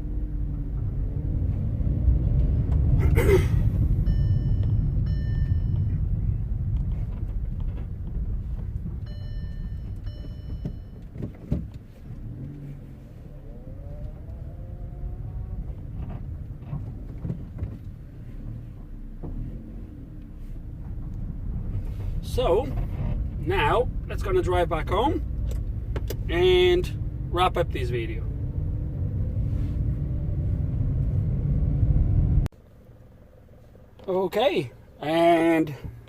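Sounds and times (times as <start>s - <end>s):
car rumbling over rough grass: 0.0s - 34.0s.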